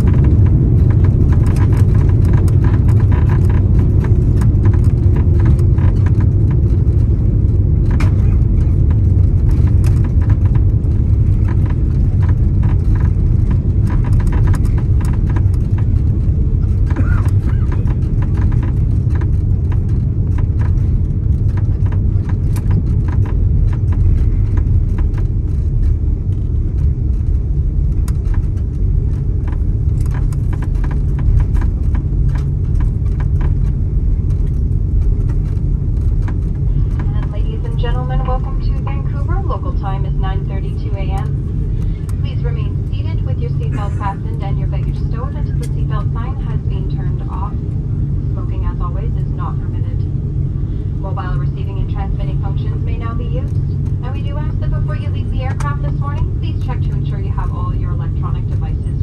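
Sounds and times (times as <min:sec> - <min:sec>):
aircraft cabin rumble: 0:00.0 - 0:59.0.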